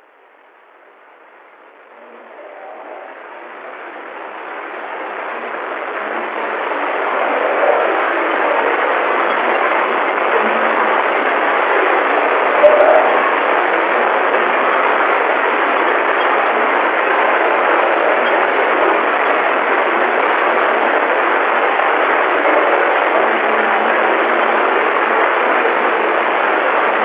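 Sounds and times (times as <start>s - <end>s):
static hiss: 0.0s - 27.0s.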